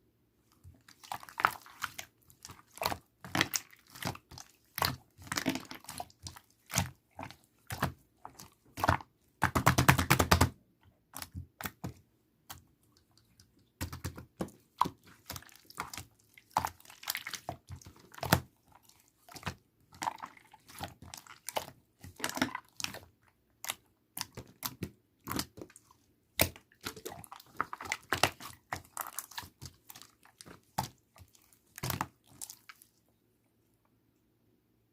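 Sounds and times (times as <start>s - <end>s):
slime squished by hand: 0.6s - 10.5s, 11.1s - 33.0s.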